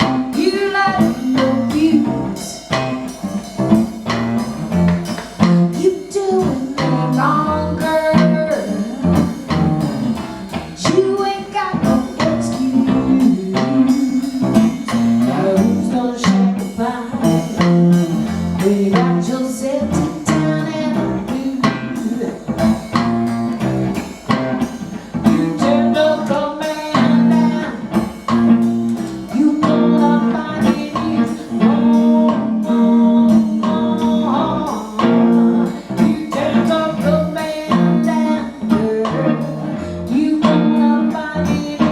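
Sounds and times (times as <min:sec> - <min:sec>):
blues band playing: 0:00.0 - 0:41.9
guitar: 0:00.0 - 0:41.9
person singing: 0:00.0 - 0:41.9.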